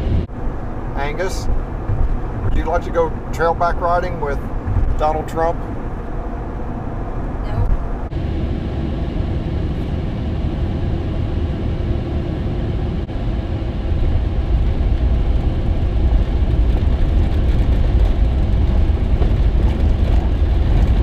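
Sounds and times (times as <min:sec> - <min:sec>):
car cabin engine and tyre rumble: 0:00.0 - 0:21.0.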